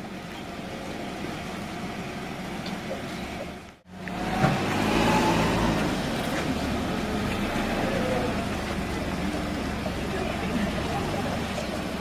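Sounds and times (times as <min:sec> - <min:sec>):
car engine running: 0:00.0 - 0:12.0
street noise: 0:00.0 - 0:12.0.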